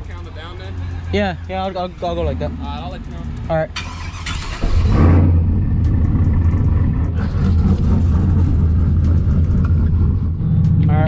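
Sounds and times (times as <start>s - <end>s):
pickup truck engine rumbling: 0.0s - 11.0s.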